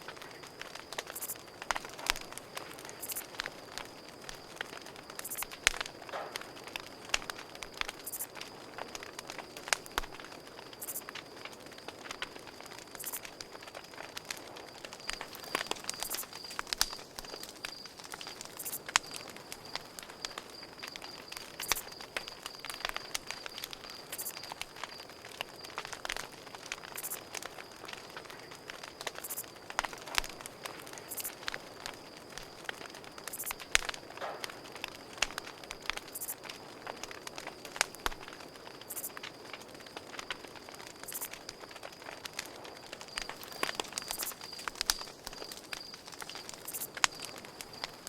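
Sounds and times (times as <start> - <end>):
campfire crackling and popping: 0.0 - 48.0
crickets chirping: 0.0 - 48.0.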